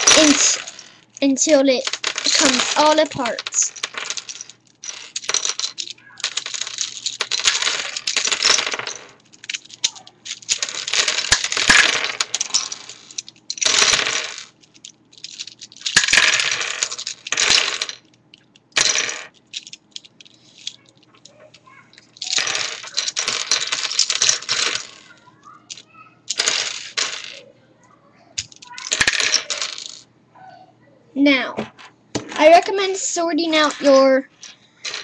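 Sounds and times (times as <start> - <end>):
plastic puzzle pieces clicking: 0.0 - 27.4, 28.4 - 30.0.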